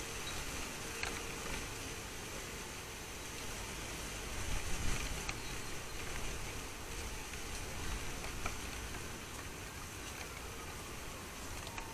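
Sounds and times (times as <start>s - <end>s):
garden ambience rumble and hiss: 0.0s - 11.9s.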